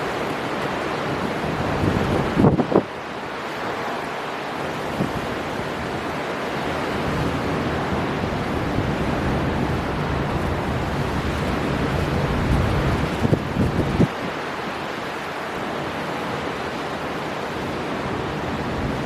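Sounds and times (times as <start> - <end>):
strong wind over sea: 0.0 - 19.0.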